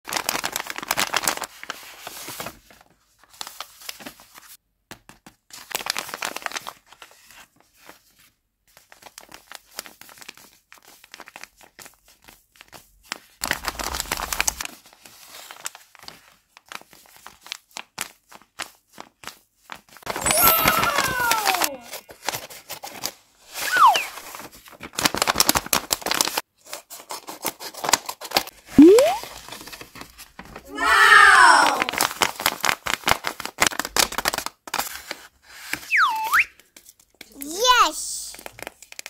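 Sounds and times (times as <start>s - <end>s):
paper and tape crinkling: 0.1s - 28.6s, 31.7s - 35.8s, 36.6s - 39.0s.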